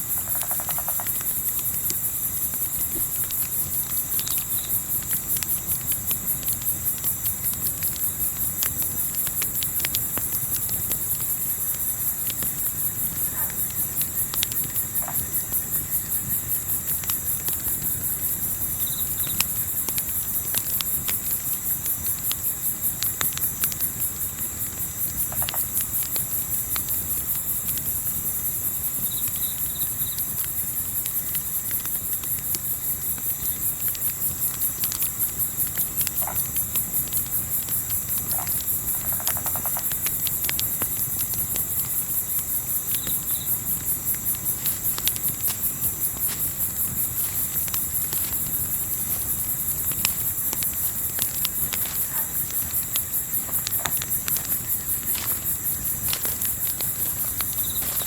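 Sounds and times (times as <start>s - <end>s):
campfire crackling: 0.0s - 58.0s
crickets chirring: 0.0s - 58.0s.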